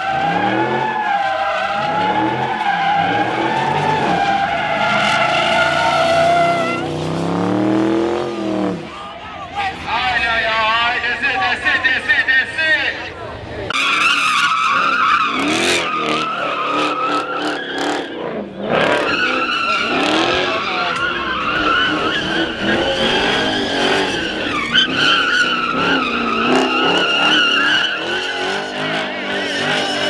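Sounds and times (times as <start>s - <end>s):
car engine revving: 0.0s - 9.0s, 13.7s - 30.0s
car tires squealing: 0.0s - 9.2s, 13.7s - 30.0s.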